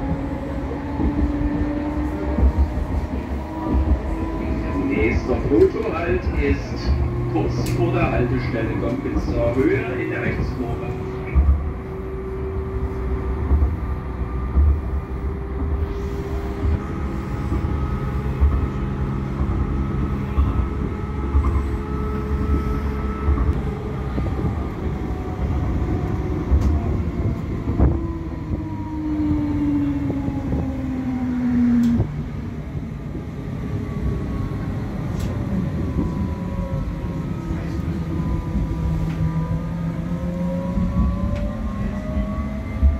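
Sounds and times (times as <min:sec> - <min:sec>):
tram rumbling: 0:00.0 - 0:42.9.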